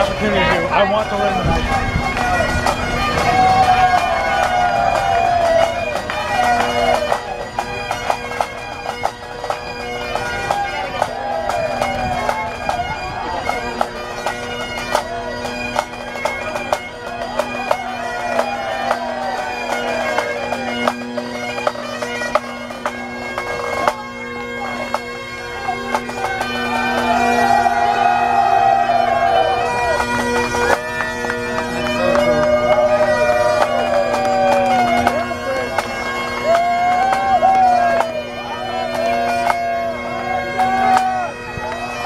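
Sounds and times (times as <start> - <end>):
bagpipes playing melody: 0.0 - 42.0.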